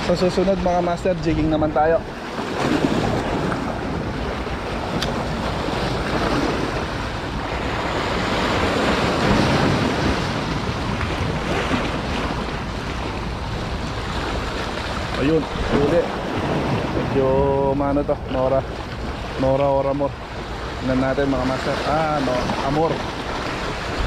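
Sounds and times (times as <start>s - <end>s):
surf splashing over rocks: 0.0s - 24.0s
wind buffeting microphone: 0.0s - 24.0s.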